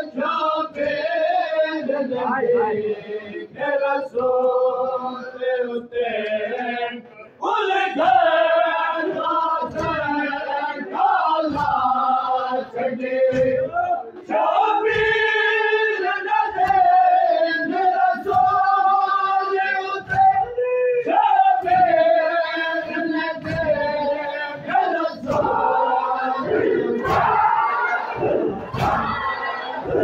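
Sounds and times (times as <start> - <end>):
men chanting in unison: 0.0 - 30.0.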